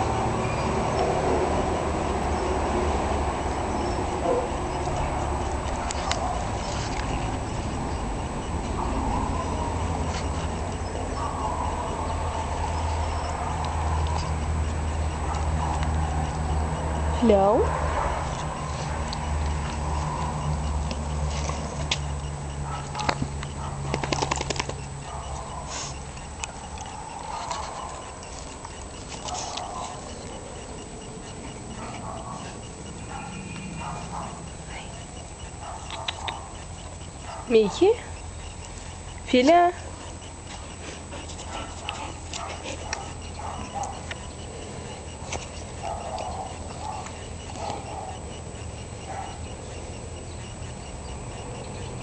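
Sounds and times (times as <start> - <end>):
paw clicks and scuffs: 2.5 - 17.1, 17.7 - 52.0.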